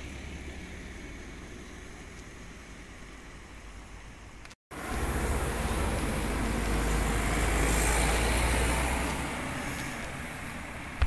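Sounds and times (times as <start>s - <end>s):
vehicle passing with tyre noise: 0.0s - 11.0s.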